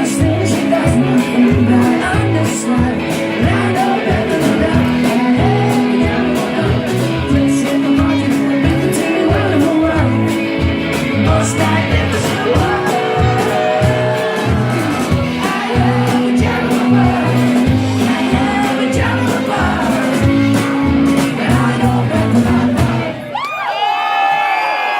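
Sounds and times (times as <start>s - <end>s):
drum and bass beat: 0.0s - 23.3s
man singing: 0.0s - 23.3s
strummed guitar: 0.0s - 23.3s.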